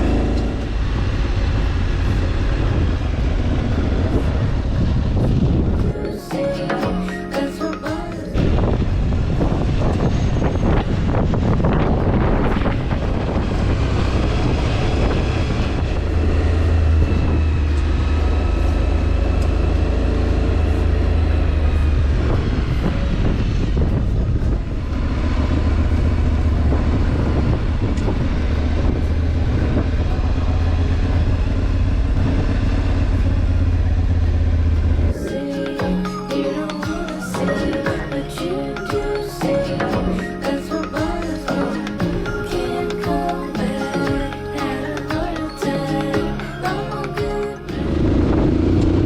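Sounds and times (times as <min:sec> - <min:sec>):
wind and road noise: 0:00.0 - 0:07.2, 0:07.9 - 0:49.0
music: 0:00.0 - 0:33.4, 0:34.1 - 0:49.0
motorcycle engine droning: 0:00.0 - 0:49.0.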